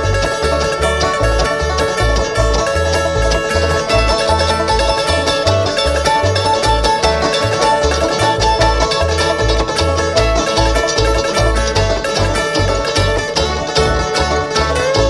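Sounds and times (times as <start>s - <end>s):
bass beat: 0.0s - 15.0s
bluegrass string band playing: 0.0s - 15.0s
fast banjo picking: 0.0s - 15.0s.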